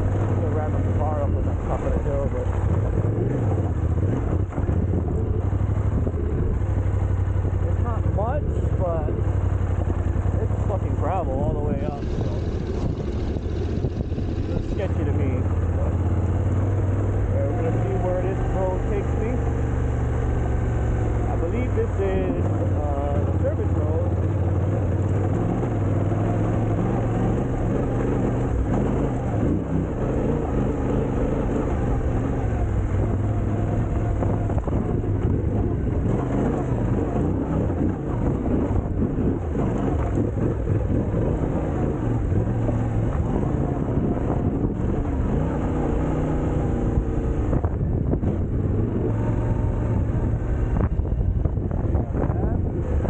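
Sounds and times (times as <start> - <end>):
constant rushing noise: 0.0 - 53.0
vehicle engine on gravel road: 0.0 - 53.0.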